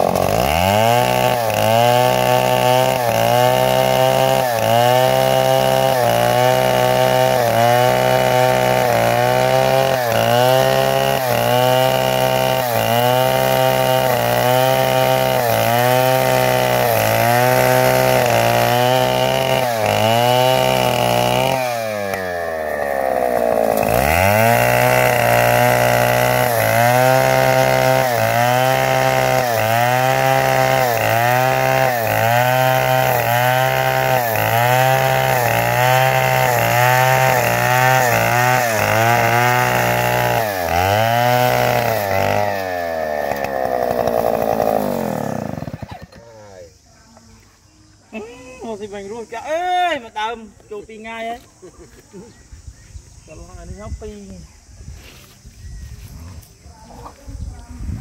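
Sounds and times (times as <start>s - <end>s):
chainsaw cutting wood: 0.0s - 47.3s.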